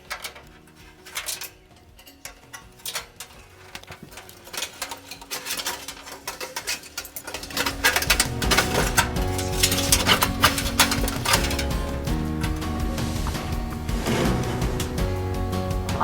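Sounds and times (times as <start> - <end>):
small metal parts clicking: 0.0 - 13.5.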